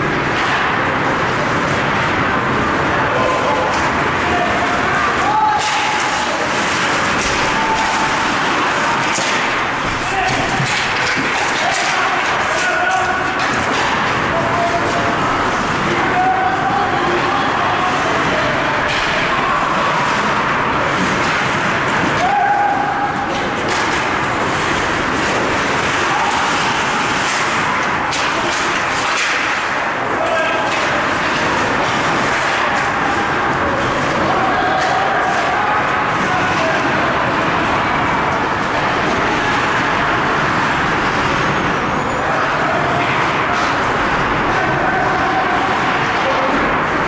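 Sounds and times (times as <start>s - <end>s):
ice hockey crowd and play: 0.0s - 47.0s.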